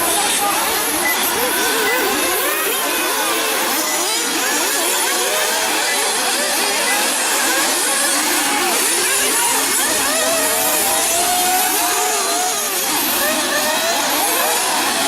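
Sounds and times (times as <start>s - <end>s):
model car engines whining: 0.0s - 15.0s.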